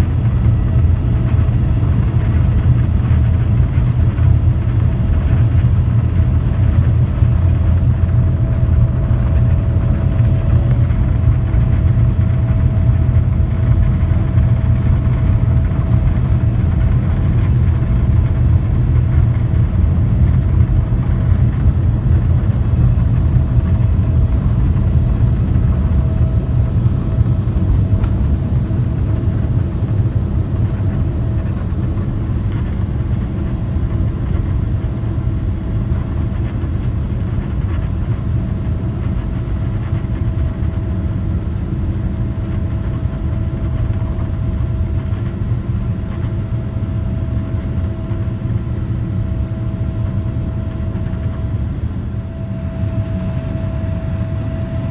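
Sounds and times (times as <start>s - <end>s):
airplane cabin engine rumble: 0.0s - 54.9s
faint steady hum: 3.8s - 54.9s.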